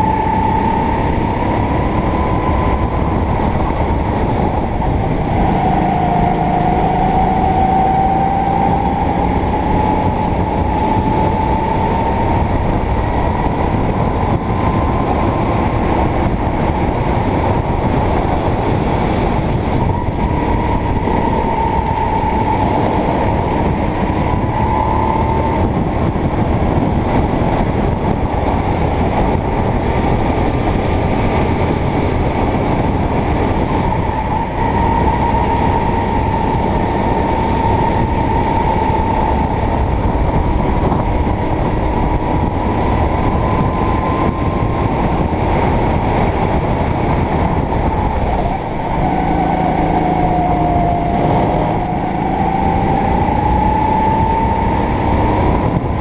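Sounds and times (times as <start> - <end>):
kart engine racing: 0.0 - 56.0
steady rushing noise: 0.0 - 56.0.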